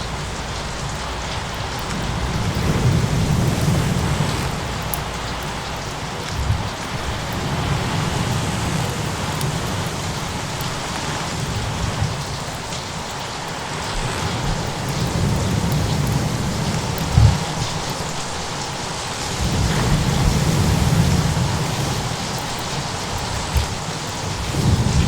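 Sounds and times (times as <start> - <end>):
fine crackles: 0.0 - 25.0
rain hissing: 0.0 - 25.0
thunder rumbling: 0.0 - 25.0
waves: 0.0 - 25.0.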